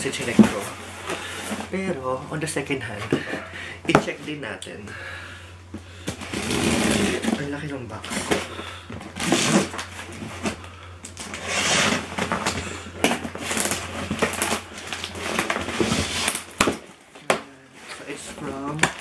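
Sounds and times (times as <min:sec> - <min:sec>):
cardboard scraping and rustling: 0:00.0 - 0:04.4, 0:06.0 - 0:19.0.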